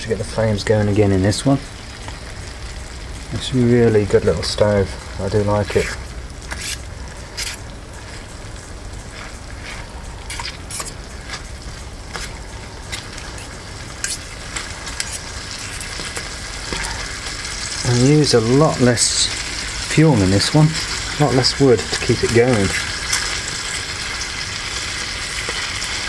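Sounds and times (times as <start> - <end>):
bacon sizzling: 0.2 - 26.0.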